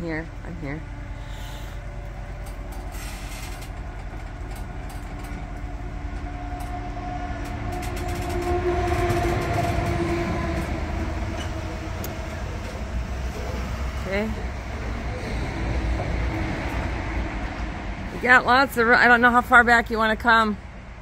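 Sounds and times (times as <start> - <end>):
steady whine: 0.0 - 21.0
truck engine rumbling: 0.0 - 21.0.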